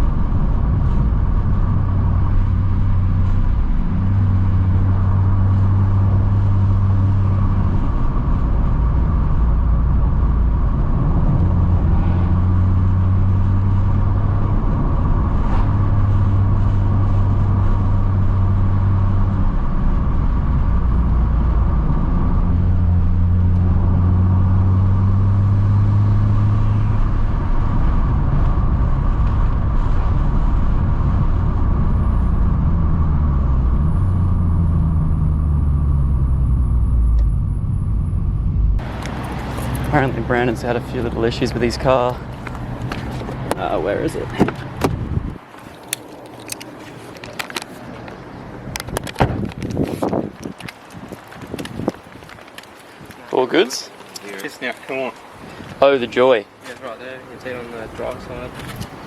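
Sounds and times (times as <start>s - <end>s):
car engine drone: 0.0s - 59.0s
road noise: 0.0s - 59.0s.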